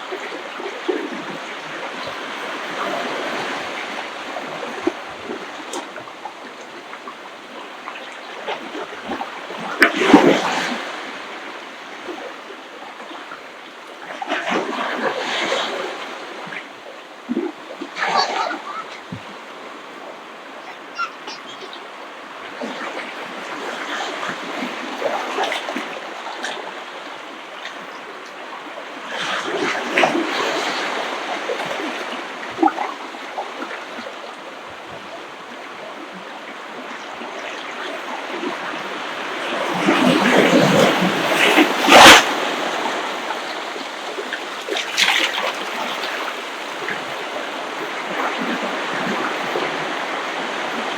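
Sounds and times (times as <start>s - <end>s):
ocean waves breaking on shore: 0.0s - 50.9s.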